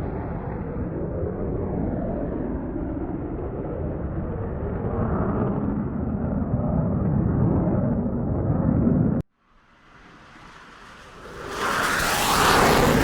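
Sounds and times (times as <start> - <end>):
aircraft engine rumble: 0.0 - 13.0.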